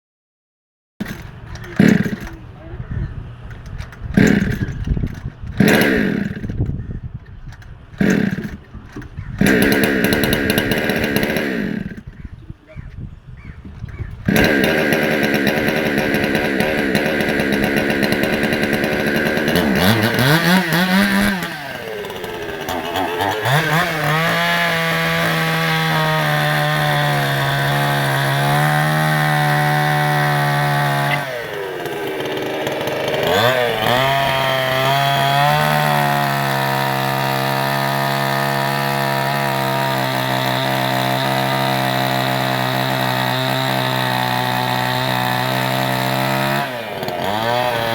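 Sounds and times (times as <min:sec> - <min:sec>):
chainsaw cutting wood: 0:01.0 - 0:02.6, 0:03.6 - 0:06.8, 0:07.4 - 0:12.3, 0:13.9 - 0:47.9.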